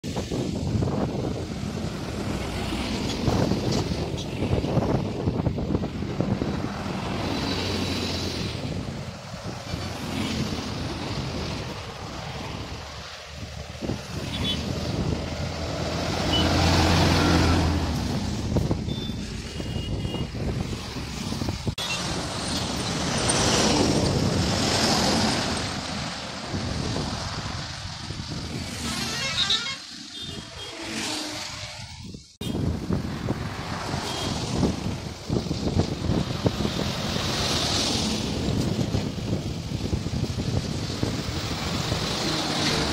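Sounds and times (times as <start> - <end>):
trucks and cars passing: 0.0 - 42.9.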